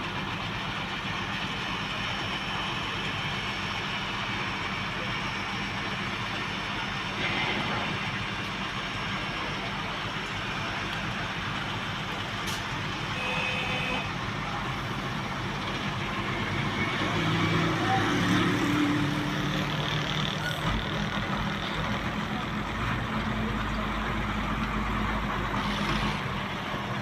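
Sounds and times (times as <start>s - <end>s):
heavy vehicle engines running: 0.0s - 27.0s
road noise: 0.0s - 27.0s.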